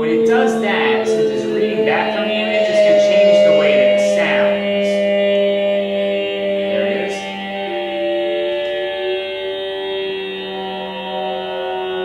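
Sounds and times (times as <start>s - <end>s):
electronic music tones: 0.0s - 12.0s
steady low drone: 0.0s - 12.0s.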